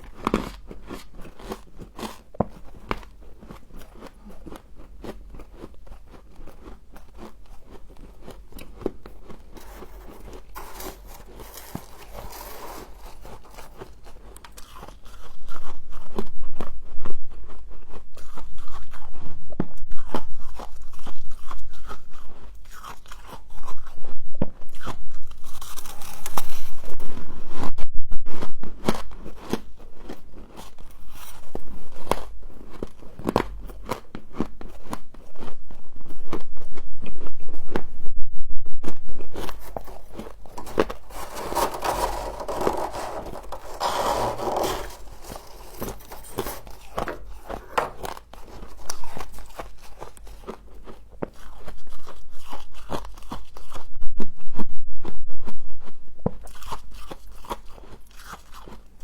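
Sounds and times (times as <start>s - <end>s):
person chewing crunchy frost: 0.0s - 27.5s, 28.4s - 37.2s, 39.2s - 53.9s, 55.4s - 59.0s.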